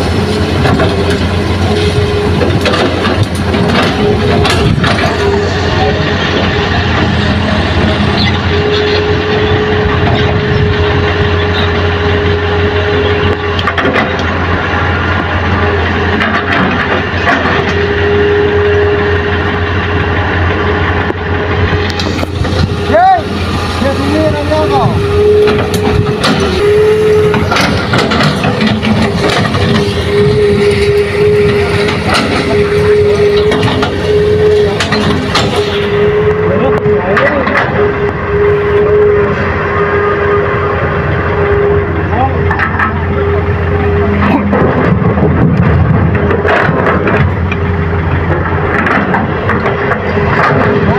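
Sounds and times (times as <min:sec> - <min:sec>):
excavator diesel engine: 0:00.0 - 0:50.9
high whine: 0:00.0 - 0:50.9.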